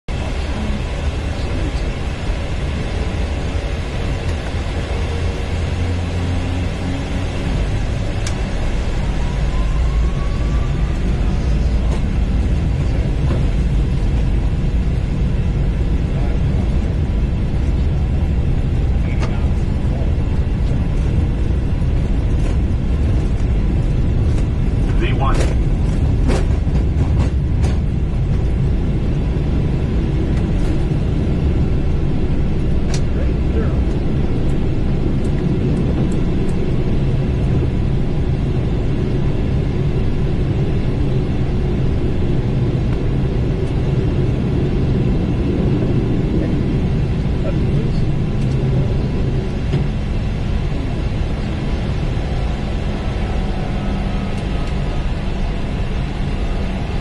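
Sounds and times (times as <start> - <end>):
jet engines at takeoff thrust: 0.1 - 57.0.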